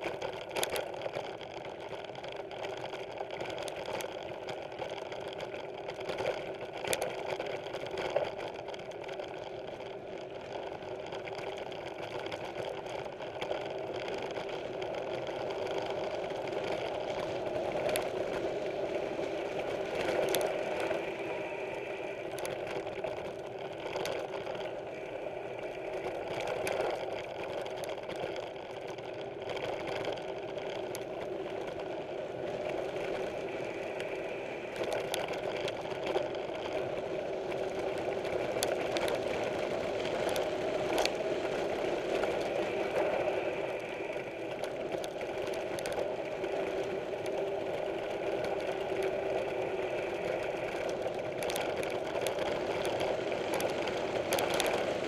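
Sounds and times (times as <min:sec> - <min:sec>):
bike rattling and clicking: 0:00.0 - 0:55.0
bike rolling on dirt trail: 0:00.0 - 0:55.0.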